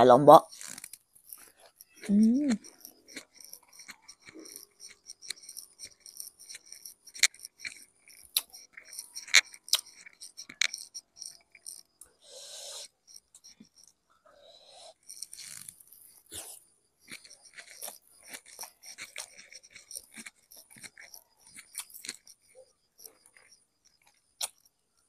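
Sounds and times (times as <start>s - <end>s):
fingers clicking and scraping stone: 0.5s - 12.0s, 14.9s - 24.8s.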